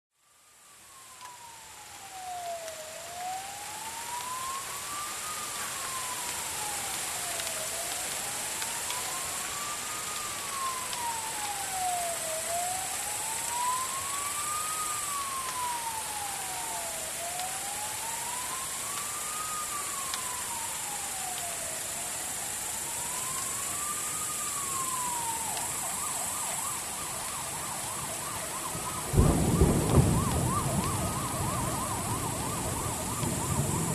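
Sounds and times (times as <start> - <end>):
emergency vehicle siren wailing: 0.2 - 33.9
steady hiss: 0.2 - 33.9.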